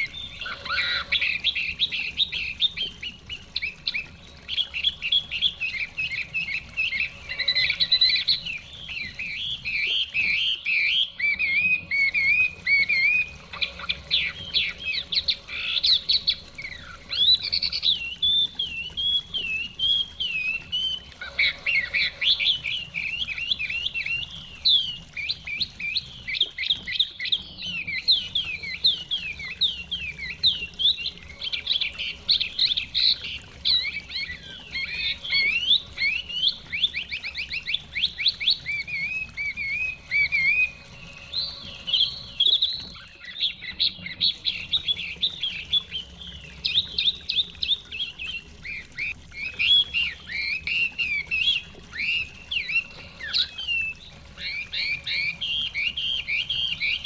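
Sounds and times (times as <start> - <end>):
bird singing whistled phrases: 0.0 - 57.0
faint flowing stream: 0.0 - 57.0.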